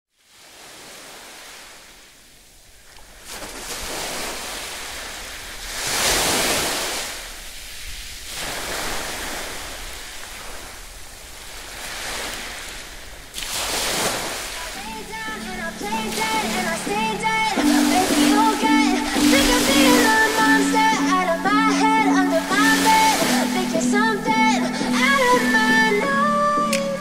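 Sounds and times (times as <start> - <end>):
ocean waves breaking: 0.2 - 27.0.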